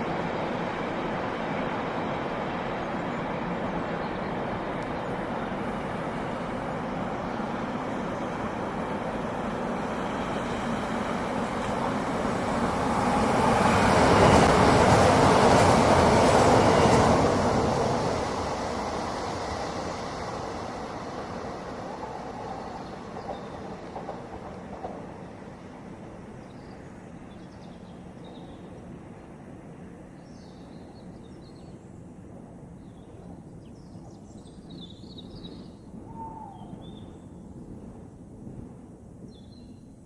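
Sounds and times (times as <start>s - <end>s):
train passing rumble: 0.0s - 40.0s.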